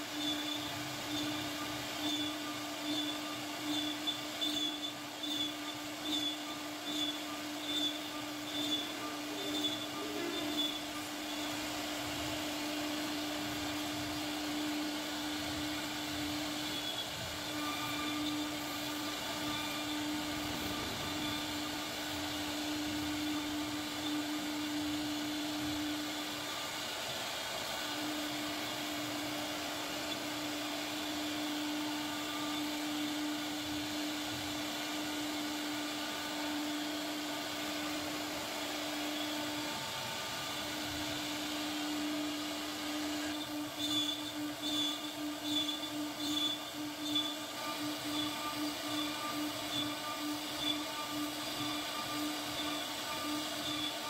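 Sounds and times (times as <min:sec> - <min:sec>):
hiss of bit cutting wood: 0:00.0 - 0:54.0
router spindle high whine: 0:00.0 - 0:54.0.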